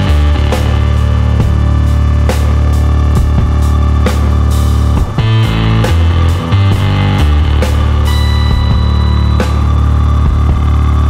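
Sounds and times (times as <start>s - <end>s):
rock music with drums and guitar: 0.0s - 11.0s.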